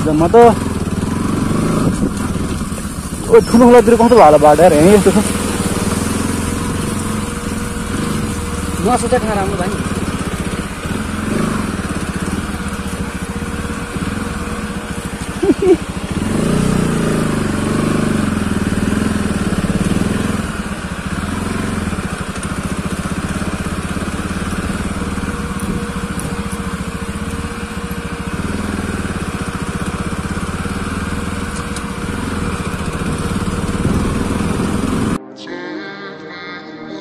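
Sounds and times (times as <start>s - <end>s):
motorcycle engine running: 0.0s - 35.2s.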